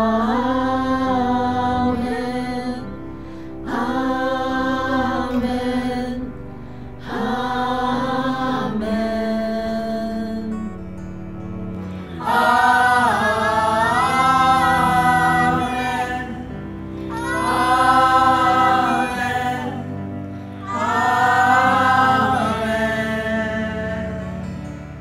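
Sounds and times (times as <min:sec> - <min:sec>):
mixed choir singing: 0:00.0 - 0:10.7, 0:11.9 - 0:25.0.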